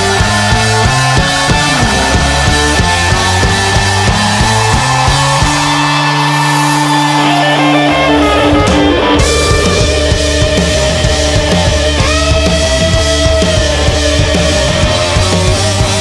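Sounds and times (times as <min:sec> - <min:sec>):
drums: 0:00.0 - 0:16.0
electric guitar: 0:00.0 - 0:16.0
guitar note sliding down: 0:00.0 - 0:16.0.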